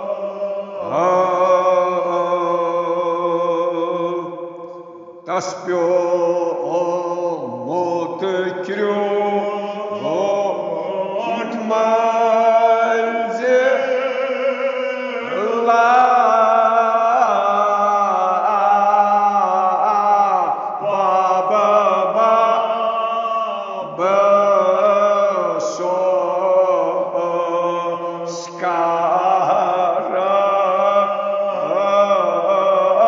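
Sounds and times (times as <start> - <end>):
elderly man chanting: 0.0 - 4.3, 5.2 - 33.0.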